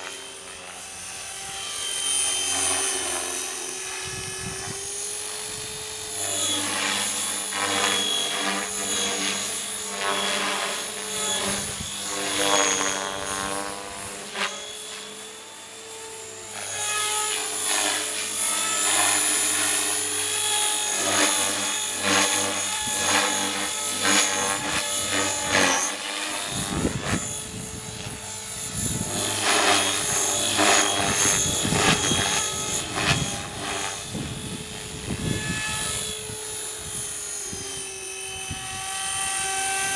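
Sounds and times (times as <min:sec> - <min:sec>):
model helicopter rotor buzz: 0:00.0 - 0:39.9.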